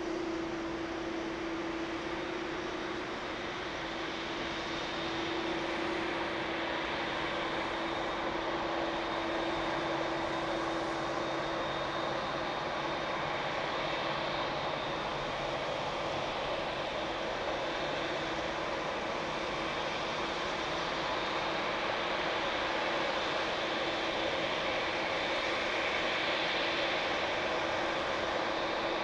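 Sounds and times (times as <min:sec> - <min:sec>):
jet engine whine and rush: 0:00.0 - 0:29.0.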